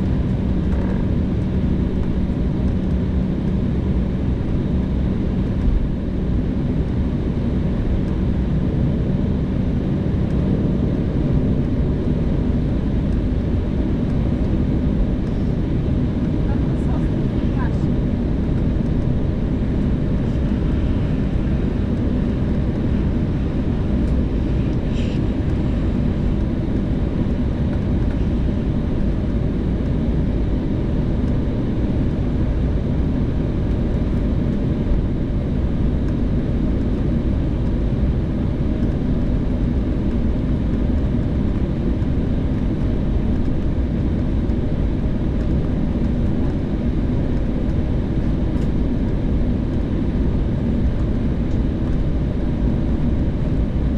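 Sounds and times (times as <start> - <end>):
jet cabin roar: 0.0 - 53.9.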